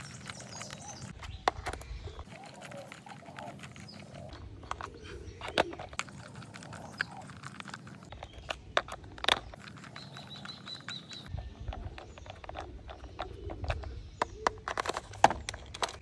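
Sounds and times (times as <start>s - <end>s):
plastic clicks and scrapes: 0.0s - 16.0s.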